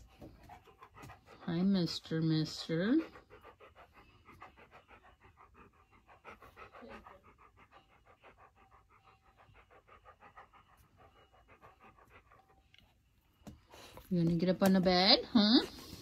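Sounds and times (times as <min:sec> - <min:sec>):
dog panting softly: 0:00.0 - 0:16.0.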